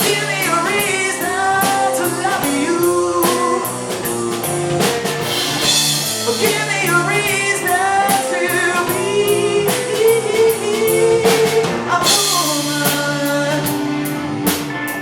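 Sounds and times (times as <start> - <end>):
person singing: 0.0 - 4.2, 5.6 - 15.0
drums: 0.0 - 15.0
electric guitar: 0.0 - 15.0.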